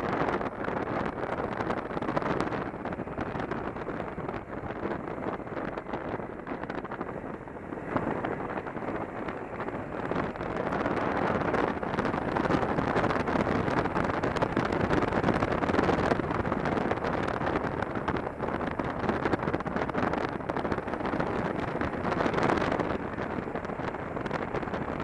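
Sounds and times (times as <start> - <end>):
motorcycle running: 0.0 - 25.0
wind roaring over microphone: 0.0 - 25.0.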